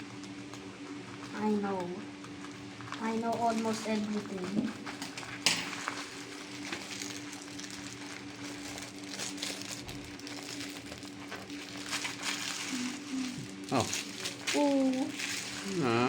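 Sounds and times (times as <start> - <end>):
small crackles: 0.0 - 16.0
steady low hum: 0.0 - 16.0
packaging paper crinkling: 0.1 - 16.0.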